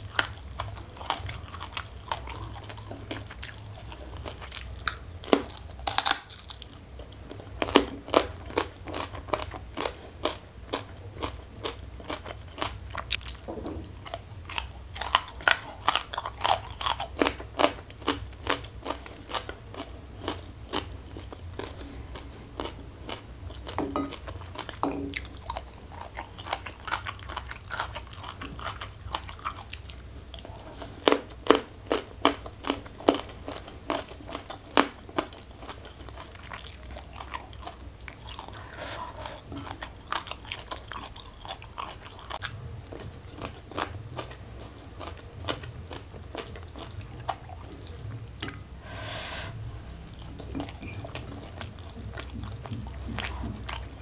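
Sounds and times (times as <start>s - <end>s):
crunchy food chewing: 0.0s - 54.0s.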